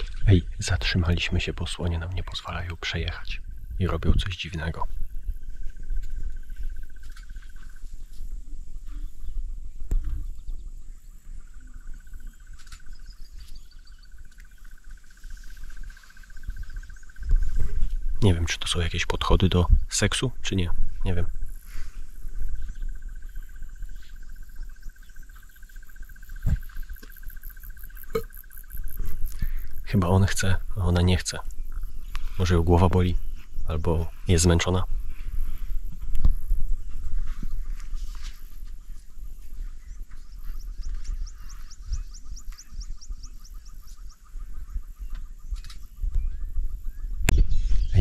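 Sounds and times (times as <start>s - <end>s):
crickets trilling: 0.0s - 48.0s
wind rumbling on microphone: 0.0s - 48.0s.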